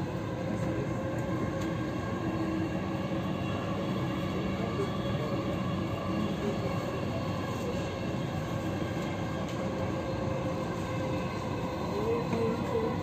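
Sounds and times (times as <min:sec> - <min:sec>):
train rumbling with high tones: 0:00.0 - 0:13.0.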